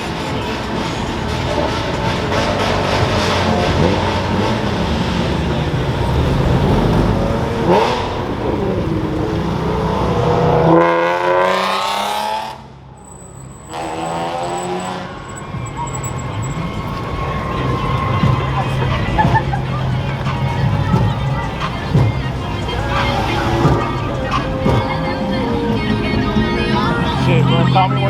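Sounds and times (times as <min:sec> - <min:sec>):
car engine revving hard: 0:00.0 - 0:12.9, 0:13.6 - 0:27.4
car engines running: 0:00.0 - 0:28.0.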